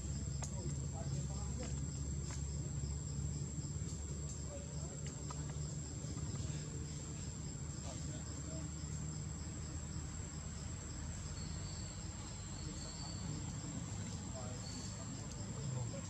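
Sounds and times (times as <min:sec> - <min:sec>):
insects trilling: 0:00.0 - 0:16.0
low background hum: 0:00.0 - 0:16.0.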